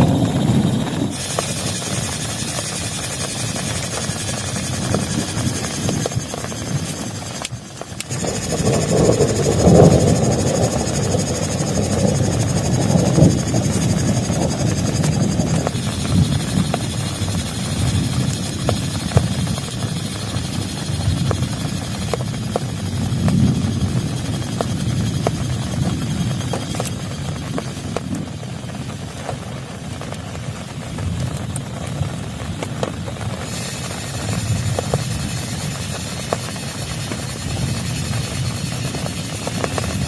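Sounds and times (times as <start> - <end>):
heavy rain on plastic tarp: 0.0 - 40.0.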